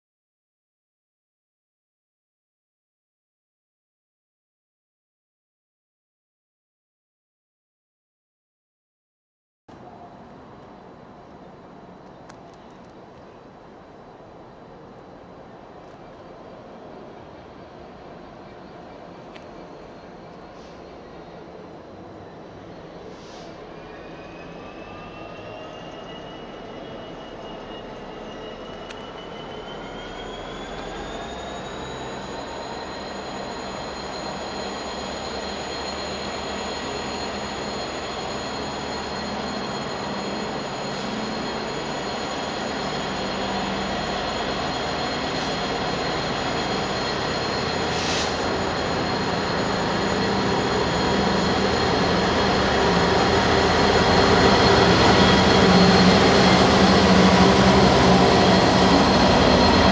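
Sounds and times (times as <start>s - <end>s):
diesel locomotive engine drone: 9.7s - 59.9s
high whine from wheels and rails: 9.7s - 59.9s.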